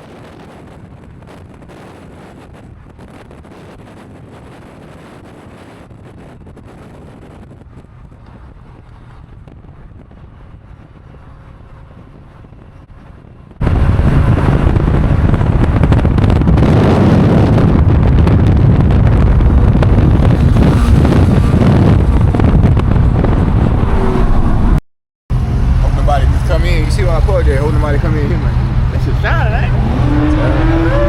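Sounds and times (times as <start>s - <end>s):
wind on microphone: 0.0s - 31.0s
car engine and exhaust running: 0.2s - 31.0s.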